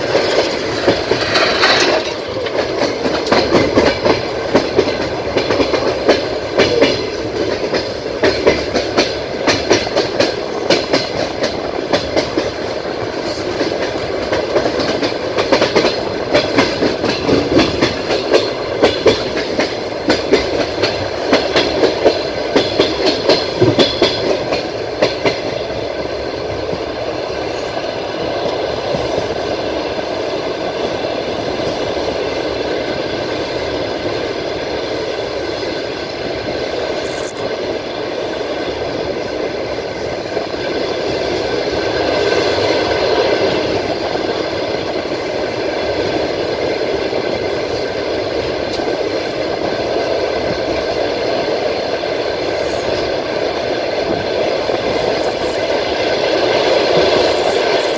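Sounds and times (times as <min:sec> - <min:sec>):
train carriage rumble: 0:00.0 - 0:57.9
train wheels clickety-clack: 0:00.0 - 0:57.9.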